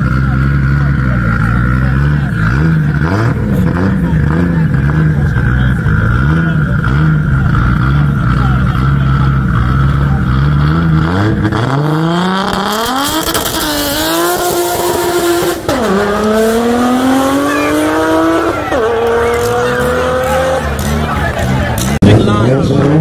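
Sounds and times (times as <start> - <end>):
car accelerating hard: 0.0 - 23.0
car engine revving: 0.0 - 23.0.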